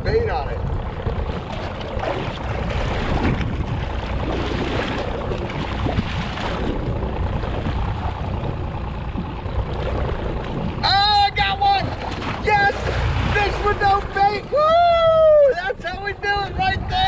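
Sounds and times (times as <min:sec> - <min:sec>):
wind buffeting microphone: 0:00.0 - 0:17.0
waves against boat hull: 0:00.6 - 0:17.0.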